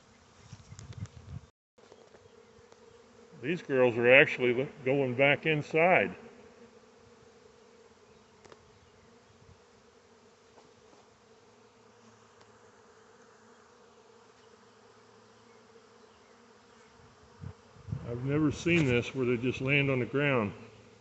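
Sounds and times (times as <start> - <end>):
honeybee swarm buzzing: 0.0 - 21.0.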